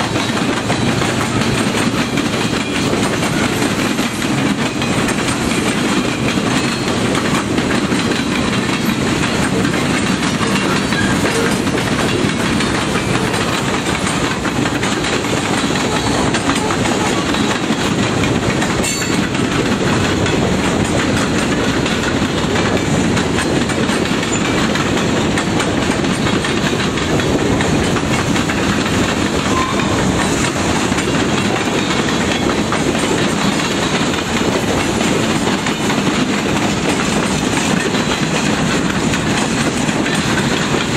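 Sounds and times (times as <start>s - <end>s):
freight train rumbling past: 0.0s - 40.9s
train wheels clacking over rail joints: 0.0s - 40.9s.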